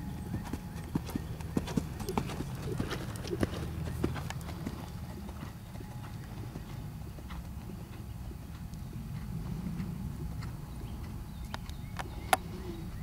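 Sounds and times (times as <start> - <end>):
horse hoofbeats: 0.0 - 12.2
steady low rumble: 0.0 - 13.0.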